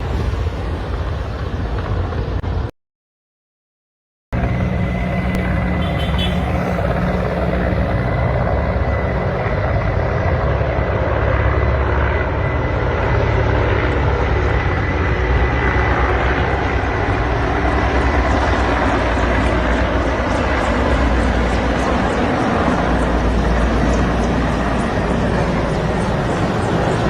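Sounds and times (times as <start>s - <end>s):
helicopter engine rushing: 0.0s - 2.7s, 4.4s - 27.0s
helicopter rotor blades beating: 0.0s - 2.7s, 4.4s - 27.0s.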